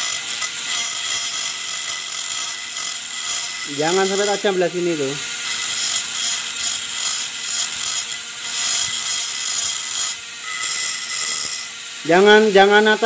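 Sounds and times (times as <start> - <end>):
screwdriver scraping metal edge: 0.0 - 12.4.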